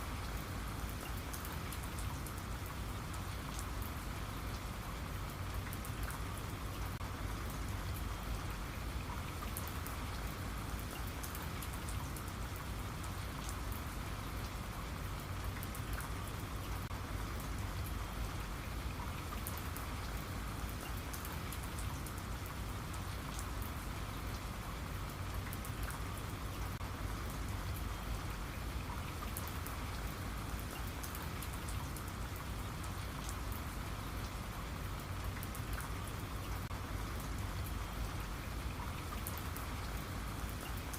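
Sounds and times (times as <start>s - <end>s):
rain hiss: 0.0s - 40.9s
raindrops ticking on a surface: 0.0s - 40.9s.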